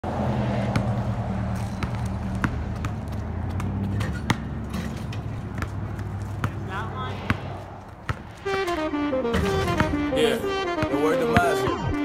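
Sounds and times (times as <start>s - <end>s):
basketball bouncing on pavement: 0.7s - 12.0s.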